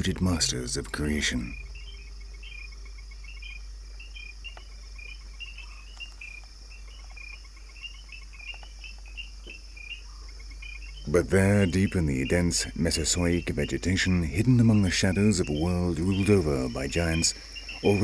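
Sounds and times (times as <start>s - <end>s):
insect drone: 0.0s - 18.0s
rapid high insect chirps: 0.0s - 18.0s.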